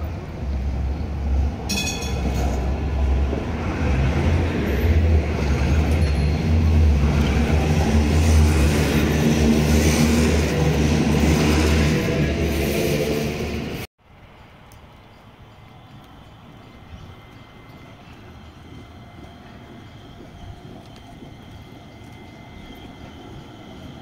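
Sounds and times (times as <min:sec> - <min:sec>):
light-rail car rumbling past: 0:00.0 - 0:13.9, 0:15.4 - 0:24.0.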